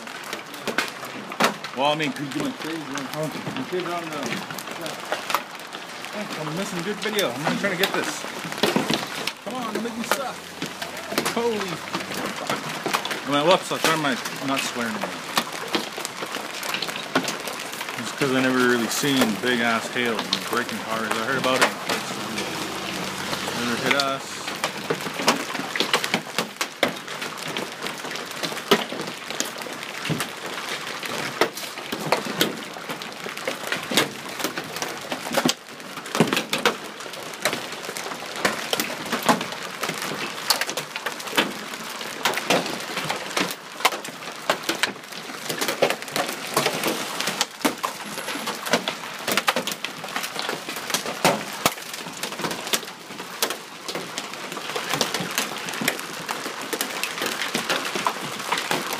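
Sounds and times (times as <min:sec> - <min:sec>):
hailstones clattering on wooden deck: 0:00.0 - 0:58.9
hiss of falling hail and rain: 0:00.0 - 0:58.9.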